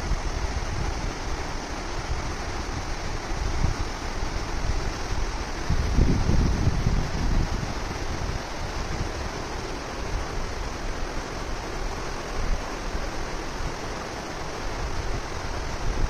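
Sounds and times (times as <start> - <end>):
river rushing over rocks: 0.0 - 16.0
wind rumbling on microphone: 0.0 - 16.0.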